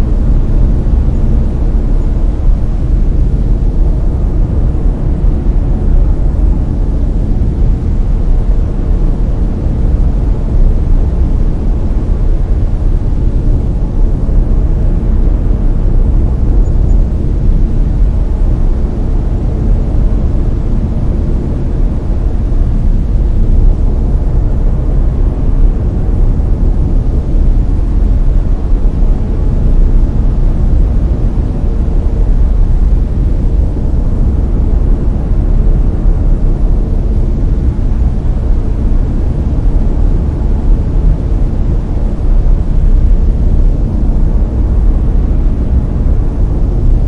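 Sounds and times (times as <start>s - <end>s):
brown noise: 0.0s - 47.0s.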